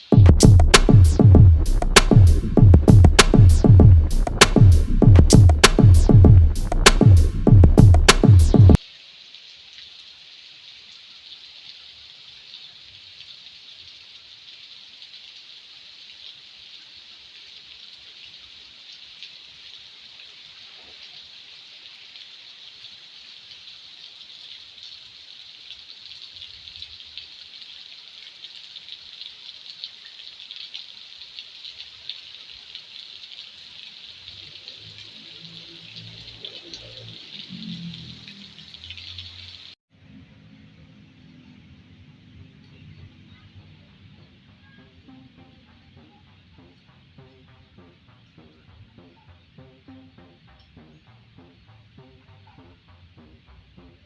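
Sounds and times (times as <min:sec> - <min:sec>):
light rain pattering: 0:00.0 - 0:54.0.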